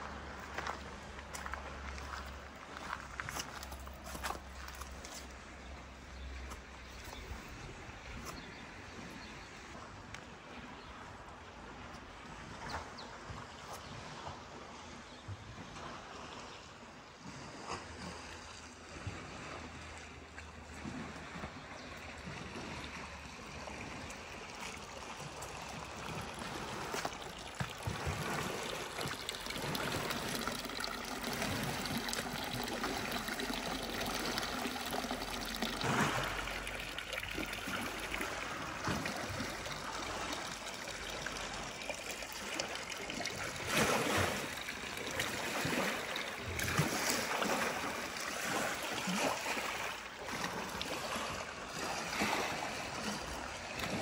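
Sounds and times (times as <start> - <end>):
fountain water trickling and splashing: 0.0 - 13.6, 19.5 - 54.0.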